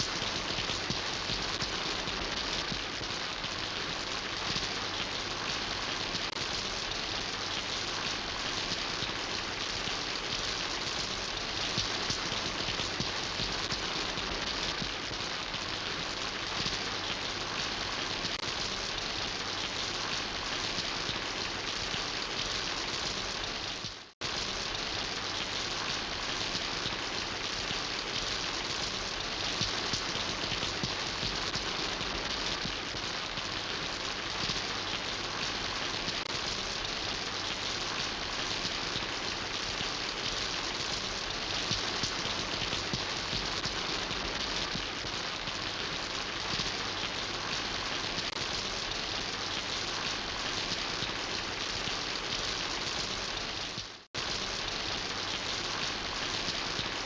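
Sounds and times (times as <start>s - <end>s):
dense rain hiss: 0.0s - 57.0s.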